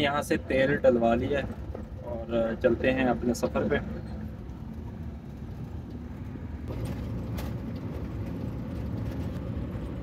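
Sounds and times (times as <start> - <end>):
pickup engine and road noise: 0.0 - 10.0.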